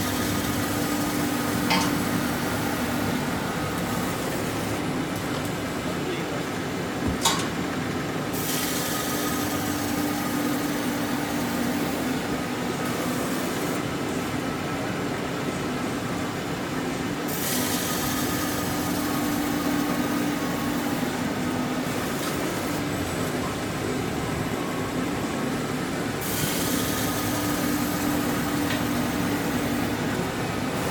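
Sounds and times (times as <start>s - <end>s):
cutting machine humming: 0.0s - 5.6s, 8.3s - 14.4s, 17.2s - 30.9s.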